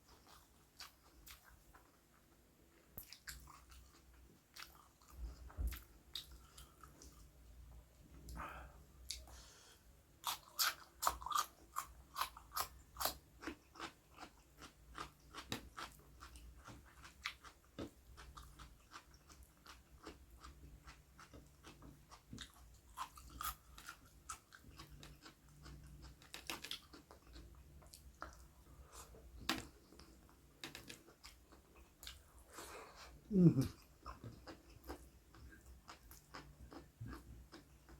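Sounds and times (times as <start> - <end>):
person crunching and chewing: 3.0 - 7.2, 10.2 - 37.9.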